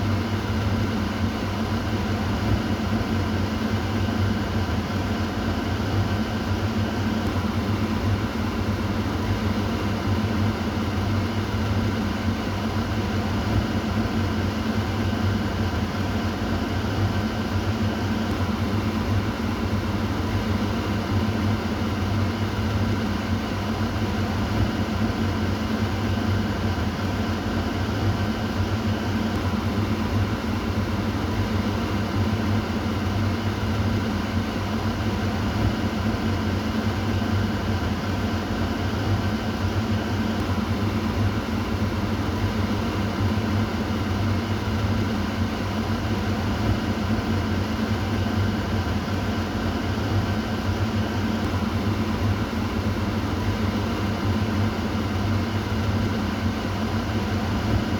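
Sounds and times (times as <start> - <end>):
constant low hum: 0.0 - 57.9
exhaust fan air rushing: 0.0 - 57.9.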